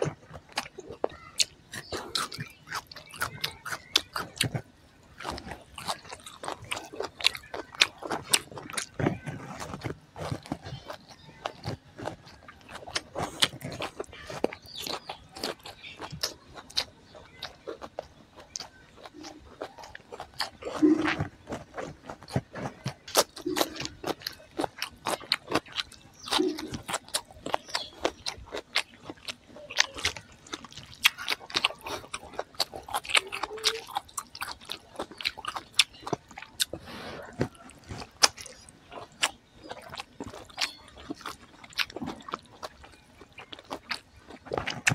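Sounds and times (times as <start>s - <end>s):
wet chewing and mouth clicks: 0.0s - 44.9s.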